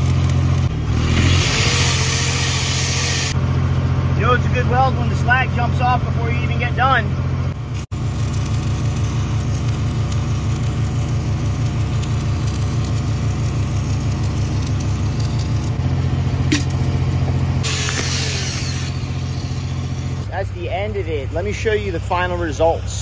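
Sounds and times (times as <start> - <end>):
welding arc crackling and hissing: 0.0 - 3.4, 7.5 - 23.0
welder engine hum: 0.0 - 23.0.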